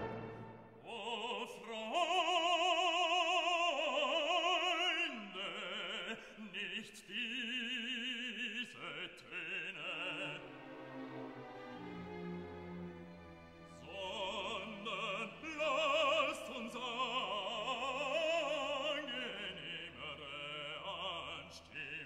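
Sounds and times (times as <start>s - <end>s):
operatic voice singing: 0.8s - 10.8s, 13.8s - 22.0s.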